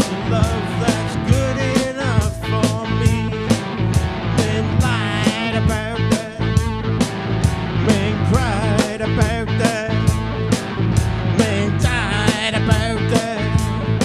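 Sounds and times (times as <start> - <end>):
wavering lead vocal line: 0.0 - 6.9, 7.8 - 10.2, 11.3 - 14.0
drums beat: 0.0 - 14.0
electric bass: 0.0 - 14.0
electric guitar: 0.0 - 14.0.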